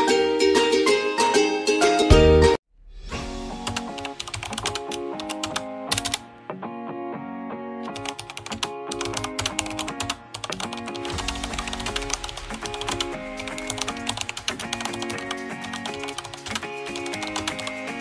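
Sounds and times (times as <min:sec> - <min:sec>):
background music with melody: 0:00.0 - 0:18.0.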